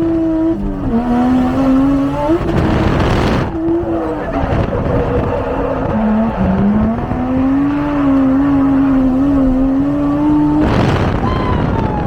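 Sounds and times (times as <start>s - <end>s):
car engine revving under load: 0.0s - 12.0s.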